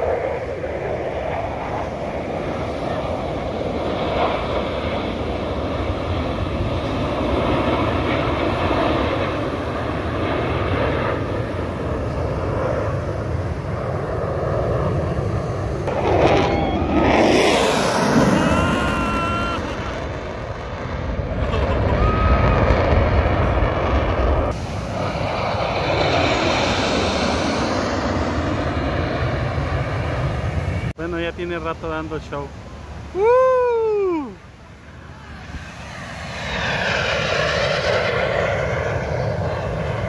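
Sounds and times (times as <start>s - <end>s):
jet passing: 0.0s - 33.2s, 34.0s - 40.0s
jet engines rushing overhead: 0.0s - 40.0s.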